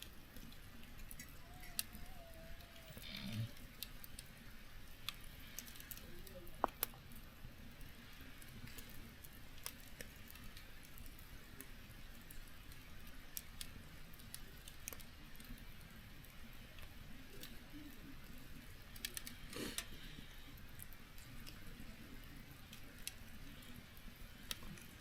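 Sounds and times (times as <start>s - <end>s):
low steady hiss: 0.0s - 25.0s
wood fire crackling: 0.0s - 25.0s.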